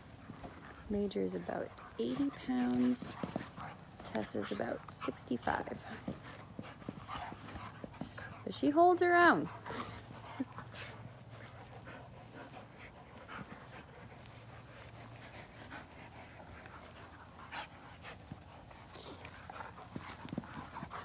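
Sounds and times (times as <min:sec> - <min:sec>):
dogs panting: 0:00.0 - 0:21.0.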